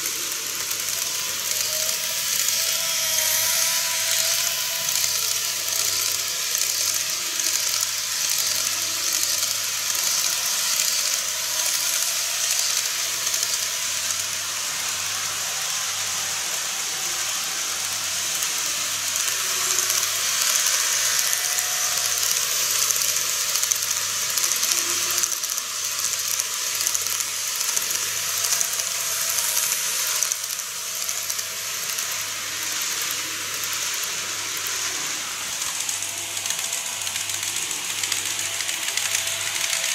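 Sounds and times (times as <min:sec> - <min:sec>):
model trains whirring: 0:00.0 - 0:39.9.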